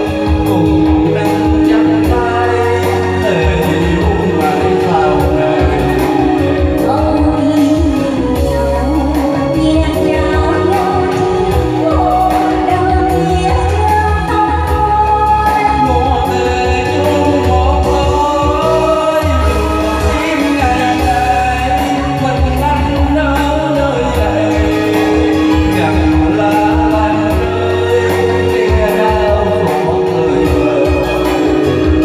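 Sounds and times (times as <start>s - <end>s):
amplified backing music: 0.0s - 32.0s
heavy pulsing bass: 0.0s - 32.0s.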